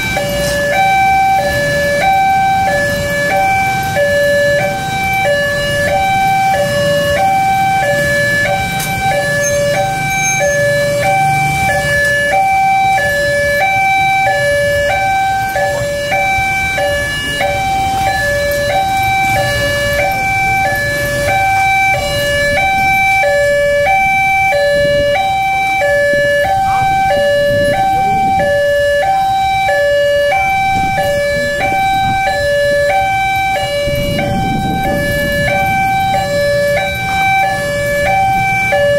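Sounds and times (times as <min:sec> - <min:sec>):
level crossing two-tone alarm: 0:00.0 - 0:38.9
vehicle engines running low: 0:00.0 - 0:38.9.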